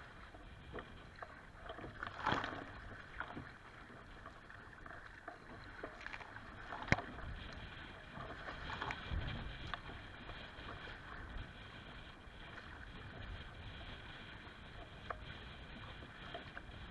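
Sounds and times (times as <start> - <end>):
water slapping against kayak: 0.0 - 16.9.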